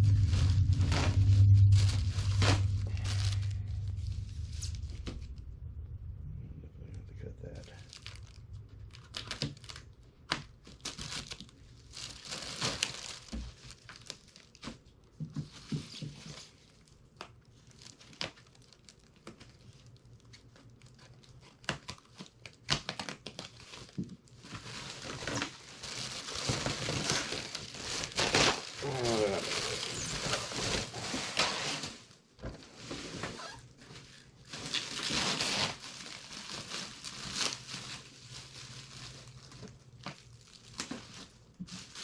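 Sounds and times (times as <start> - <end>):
packaging crinkling and rustling: 0.0 - 5.4, 7.4 - 42.0.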